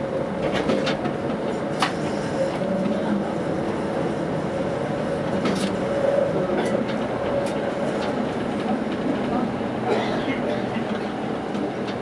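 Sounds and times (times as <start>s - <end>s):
tram wheels rolling on rail: 0.0s - 12.0s.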